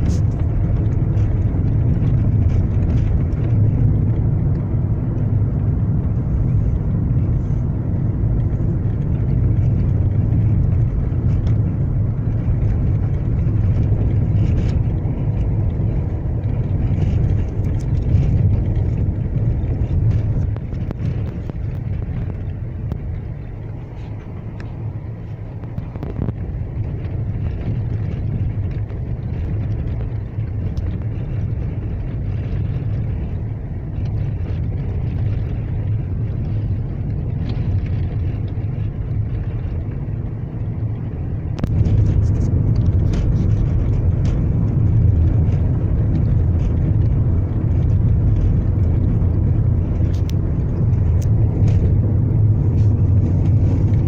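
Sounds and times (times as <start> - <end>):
car engine and tyre rumble: 0.0 - 54.0
knocks and rattles over bumps: 0.0 - 54.0.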